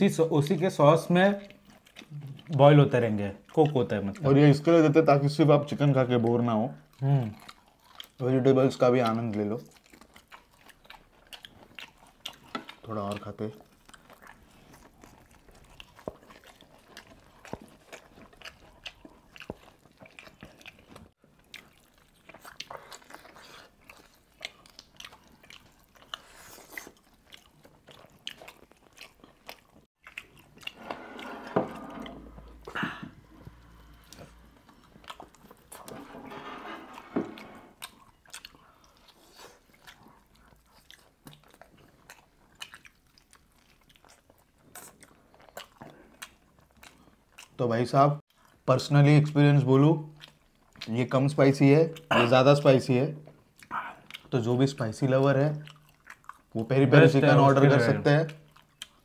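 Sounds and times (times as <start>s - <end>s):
biting and chewing: 0.4s - 4.8s, 5.9s - 47.6s, 49.2s - 57.1s, 57.7s - 59.0s.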